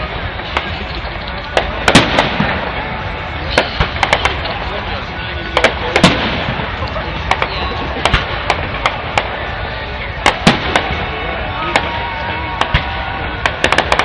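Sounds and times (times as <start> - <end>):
crowd noise: 0.0 - 14.0
fireworks bangs: 0.0 - 14.0.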